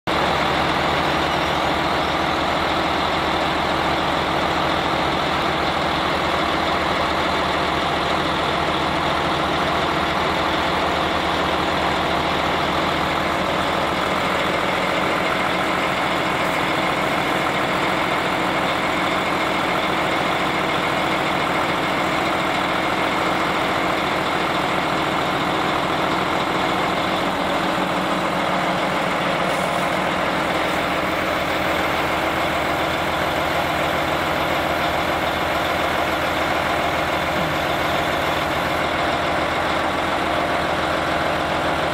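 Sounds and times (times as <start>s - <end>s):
truck engine humming: 0.1s - 41.9s.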